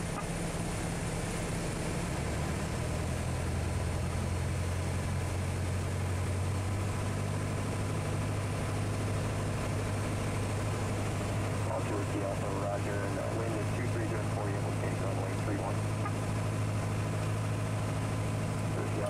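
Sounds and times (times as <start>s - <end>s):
aircraft engine and propeller: 0.0s - 19.0s.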